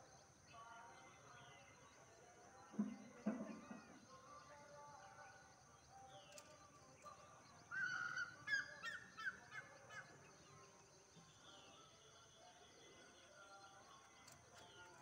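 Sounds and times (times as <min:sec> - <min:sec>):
faint small birds chirping: 0:00.0 - 0:15.0.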